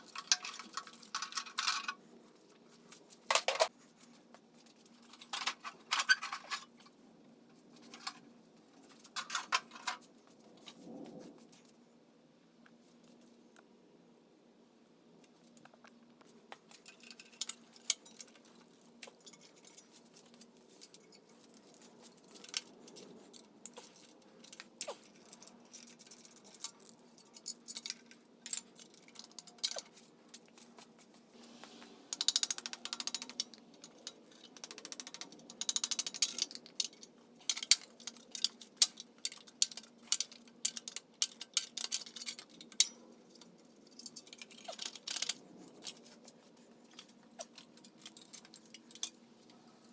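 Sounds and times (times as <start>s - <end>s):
hand tools and metal parts clinking: 0.0s - 10.8s, 15.6s - 49.9s.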